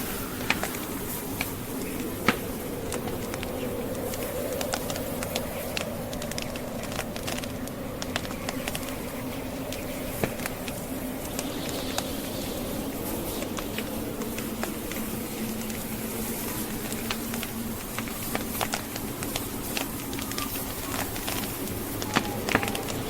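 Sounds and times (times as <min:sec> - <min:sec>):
howling snowstorm wind: 0:00.0 - 0:23.0
logs crackling in fireplace: 0:00.0 - 0:23.0.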